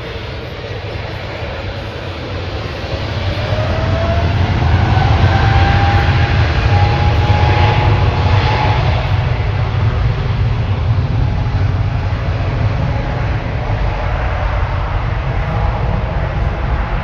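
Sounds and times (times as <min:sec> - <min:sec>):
faint engine whine: 0:00.0 - 0:17.0
jet engines rumbling: 0:00.0 - 0:17.0.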